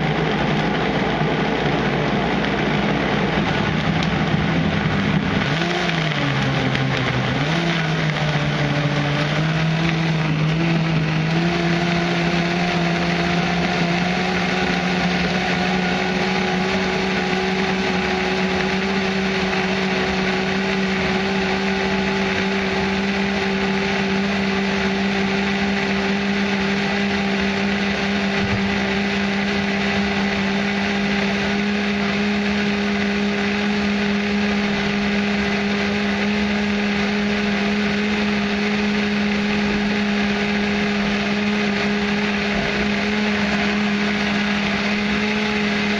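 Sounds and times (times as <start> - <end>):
blender motor running: 0.0 - 45.9.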